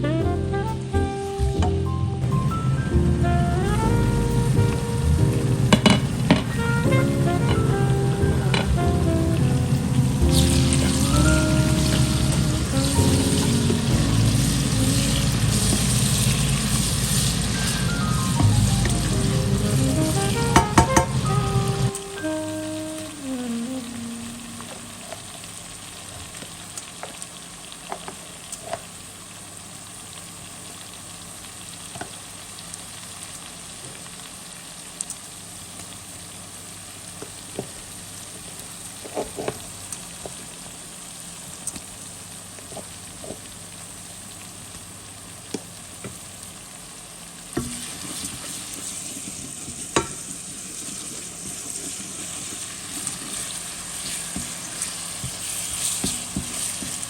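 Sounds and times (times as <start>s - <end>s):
food sizzling in a pot: 0.0s - 57.0s.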